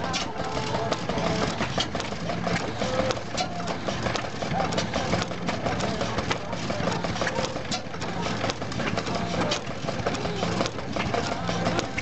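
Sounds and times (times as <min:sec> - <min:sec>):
stationary engine running: 0:00.0 - 0:12.0.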